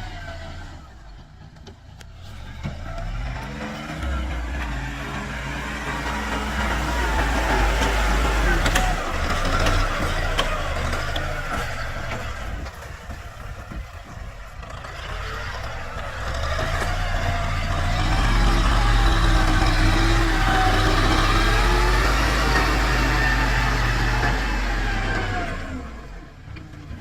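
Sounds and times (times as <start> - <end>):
tractor diesel engine revving: 0.0 - 27.0.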